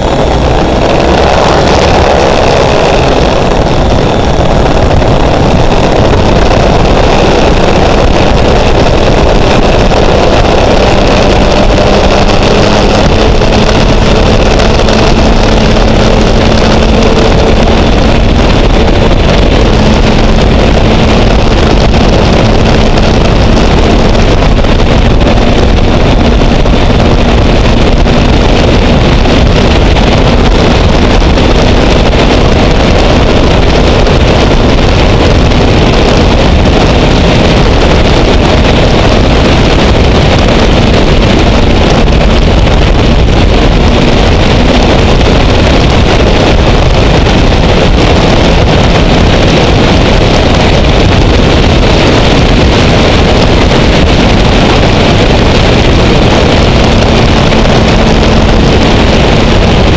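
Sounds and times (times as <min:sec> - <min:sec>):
high steady whine: 0:00.0 - 0:59.9
turbine engine rush: 0:00.0 - 0:59.9
wind on microphone: 0:00.0 - 0:59.9.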